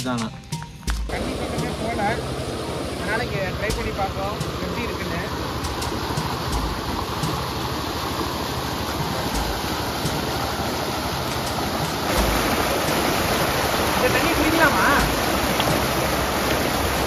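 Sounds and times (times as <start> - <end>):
dull low thumps: 0.0 - 17.0
stream rushing over rocks: 1.1 - 17.0.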